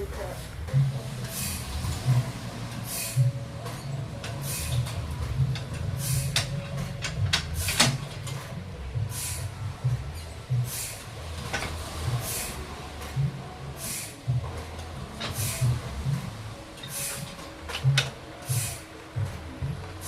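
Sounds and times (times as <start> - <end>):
sawmill machinery rumbling: 0.0 - 20.0.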